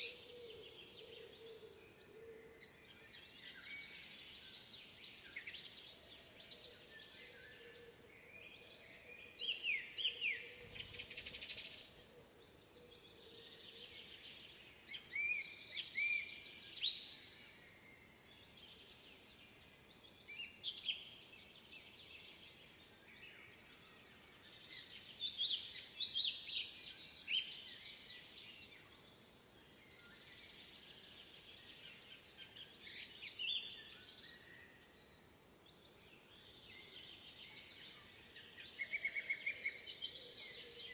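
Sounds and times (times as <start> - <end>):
faint background hiss: 0.0 - 40.9
songbirds singing: 0.0 - 40.9.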